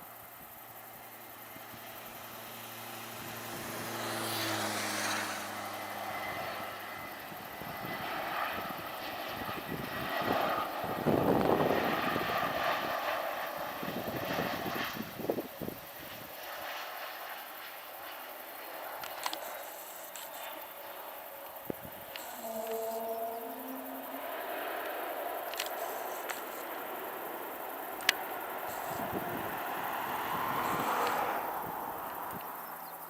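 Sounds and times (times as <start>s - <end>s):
jet engine passing: 0.6s - 33.0s.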